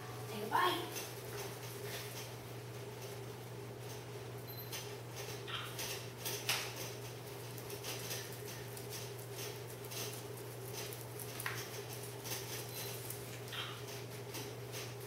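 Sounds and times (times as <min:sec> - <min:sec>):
small clicks and rustles: 0:00.9 - 0:15.0.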